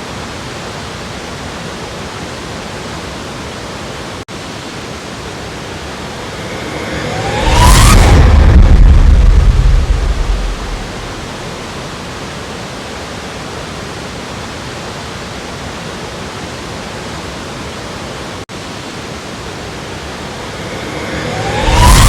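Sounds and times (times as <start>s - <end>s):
waterfall rushing: 0.1s - 22.0s.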